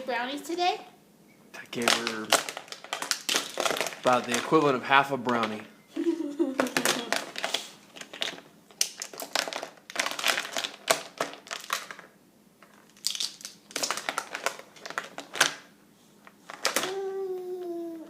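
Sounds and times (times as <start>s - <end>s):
crinkling crackling noise: 1.6s - 5.7s, 6.6s - 15.7s, 16.3s - 18.0s.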